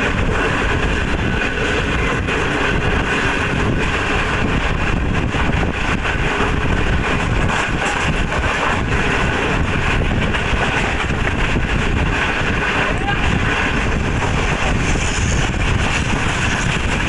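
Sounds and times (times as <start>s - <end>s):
train wheels on rails: 0.0s - 17.0s
wind buffeting microphone: 0.0s - 17.0s.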